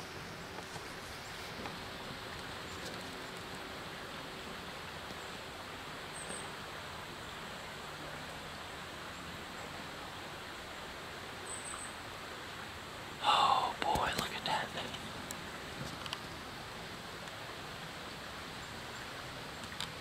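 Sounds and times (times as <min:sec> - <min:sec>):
low woodland ambience hiss: 0:00.0 - 0:20.0.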